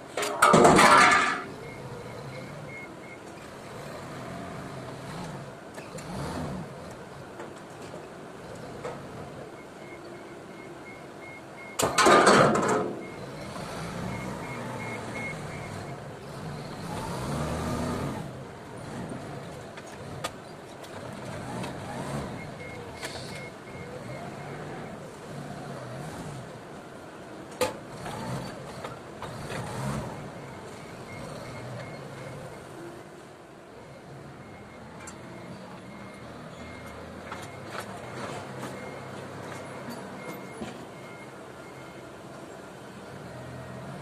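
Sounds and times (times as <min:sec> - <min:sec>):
forklift engine running: 0:00.0 - 0:44.0.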